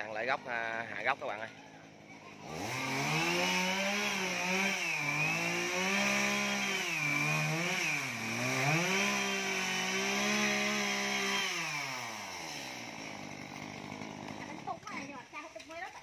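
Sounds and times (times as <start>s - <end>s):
chainsaw cutting wood: 1.8s - 16.0s.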